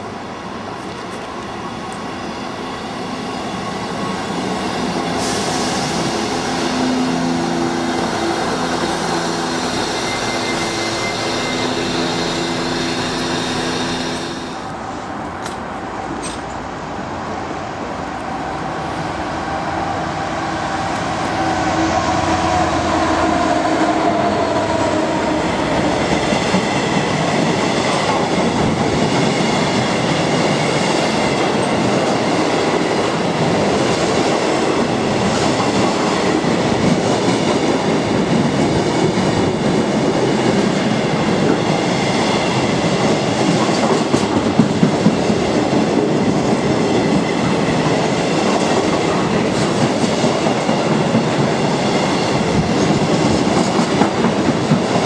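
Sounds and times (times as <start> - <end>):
diesel locomotive engine passing: 1.8 - 16.0, 16.7 - 55.0.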